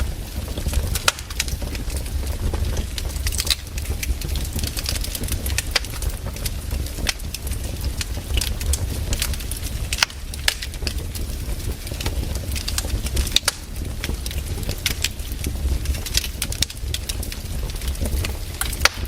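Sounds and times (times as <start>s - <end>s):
firewood crackling and popping: 0.0s - 19.0s
low steady rumble: 0.0s - 19.0s.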